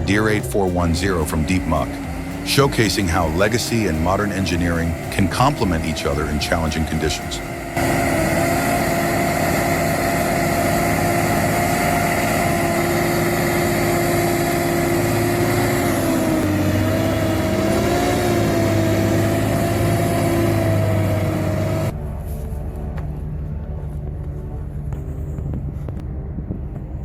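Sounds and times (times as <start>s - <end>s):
tractor diesel engines under load: 0.0s - 27.0s.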